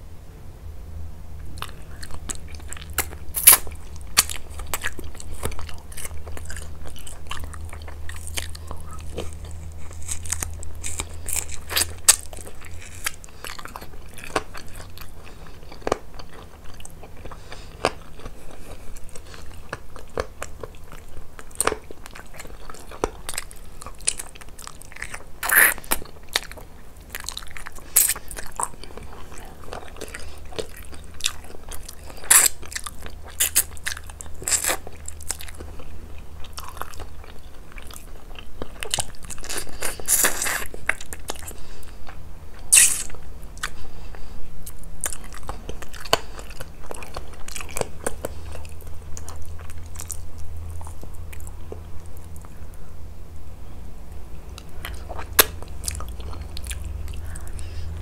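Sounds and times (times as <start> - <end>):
steady low hum: 0.0 - 58.0
chewing and biting: 1.4 - 52.6, 54.5 - 58.0.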